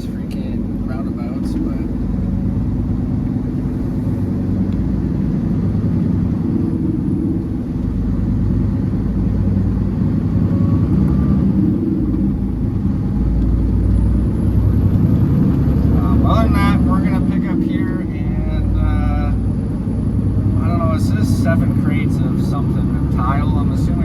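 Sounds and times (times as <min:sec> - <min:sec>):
diesel engine droning: 0:00.0 - 0:24.0
low road rumble: 0:00.0 - 0:24.0.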